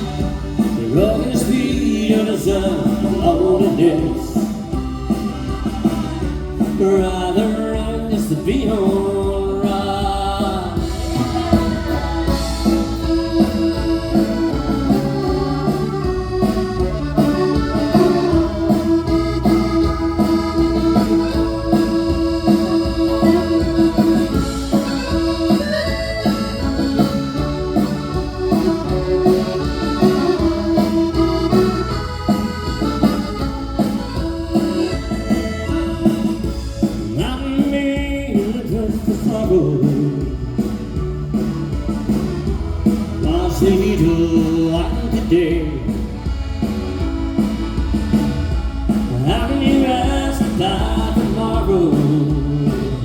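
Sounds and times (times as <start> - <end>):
drum and bass backing: 0.0 - 53.0.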